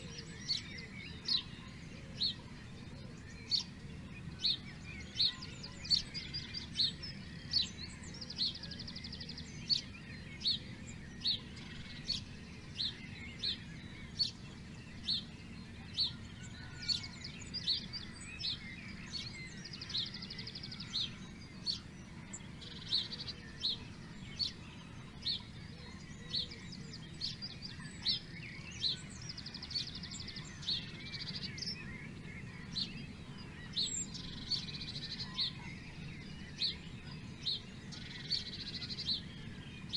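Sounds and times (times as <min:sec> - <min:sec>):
birds chirping: 0:00.0 - 0:39.9
steady low background noise: 0:00.0 - 0:39.9.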